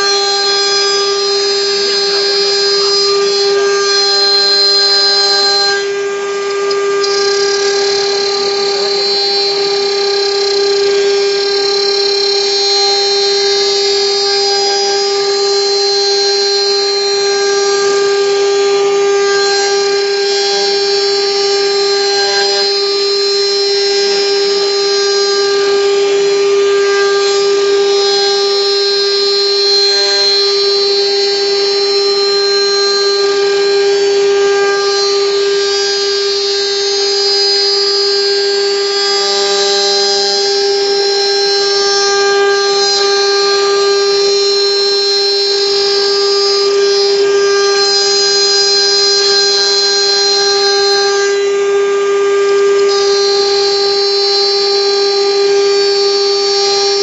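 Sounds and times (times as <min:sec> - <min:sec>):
router spindle whining: 0:00.0 - 0:57.0.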